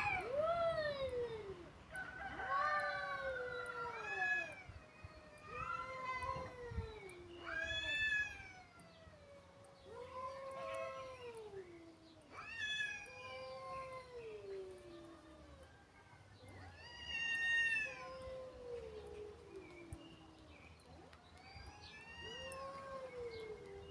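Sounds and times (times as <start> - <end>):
cats yowling: 0.0 - 23.9.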